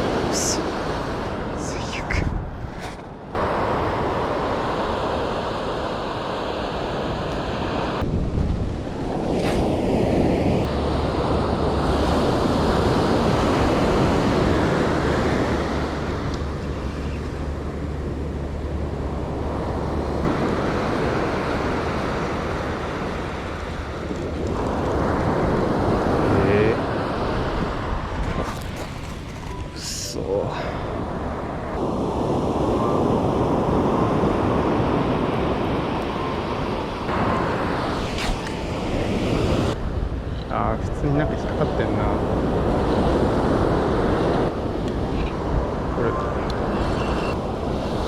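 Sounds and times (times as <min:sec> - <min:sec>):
sea waves breaking on shore: 0:00.0 - 0:40.3, 0:41.1 - 0:48.0
wind buffeting microphone: 0:00.0 - 0:48.0.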